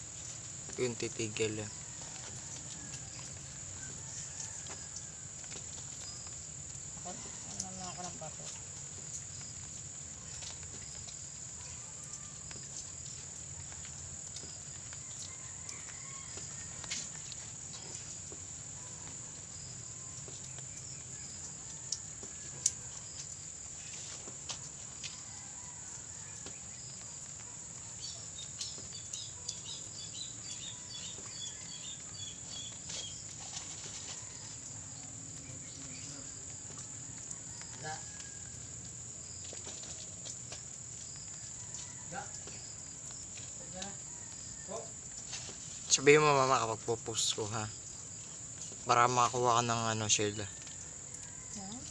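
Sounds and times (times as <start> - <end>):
insect chorus: 0.0 - 51.9.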